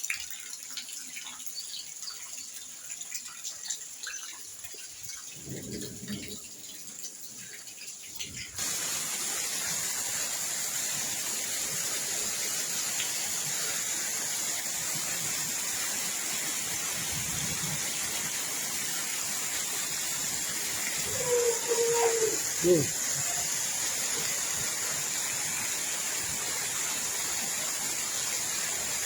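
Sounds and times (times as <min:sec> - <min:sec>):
rushing water: 0:00.0 - 0:29.0.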